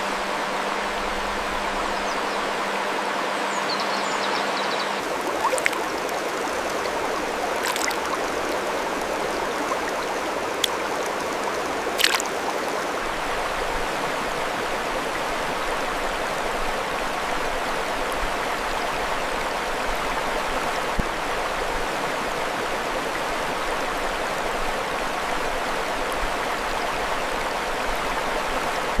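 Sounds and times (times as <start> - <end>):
mountain stream rushing: 5.0 - 29.0.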